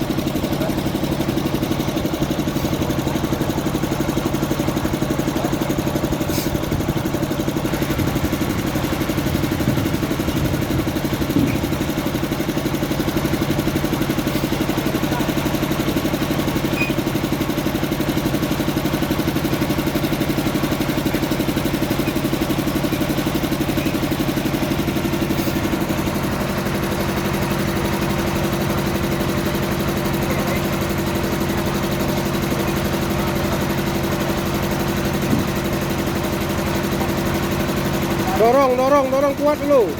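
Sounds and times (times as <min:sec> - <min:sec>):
heavy diesel engine idling: 0:00.0 - 0:39.9.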